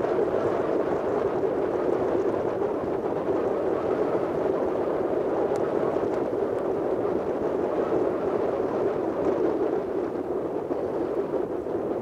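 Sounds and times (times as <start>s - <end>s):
wind blowing over microphone: 0.0s - 12.0s.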